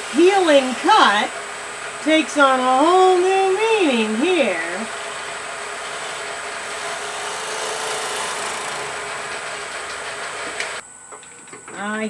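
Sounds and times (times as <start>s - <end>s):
gouge scraping on lathe: 0.0s - 10.8s
lathe motor hum: 0.0s - 10.8s.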